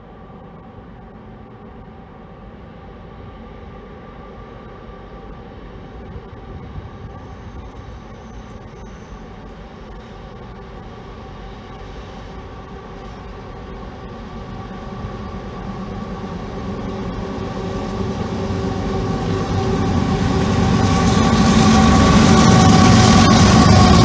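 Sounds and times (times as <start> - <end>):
diesel locomotive engines droning: 0.0 - 24.0.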